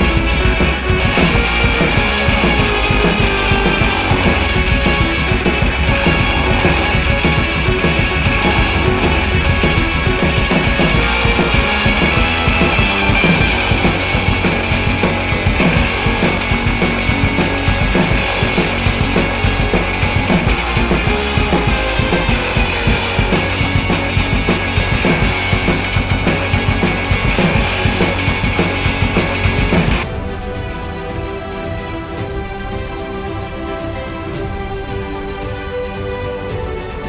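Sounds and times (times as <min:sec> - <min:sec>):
loud rock music: 0:00.0 - 0:37.0.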